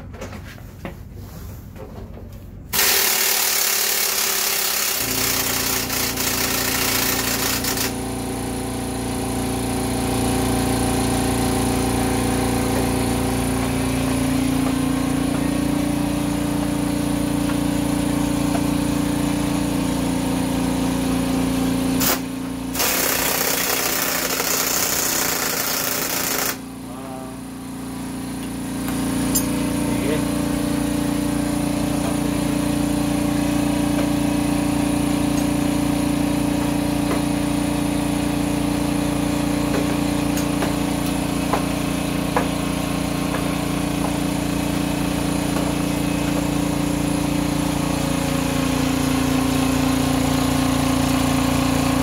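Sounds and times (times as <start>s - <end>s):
motor drone: 2.7s - 52.0s.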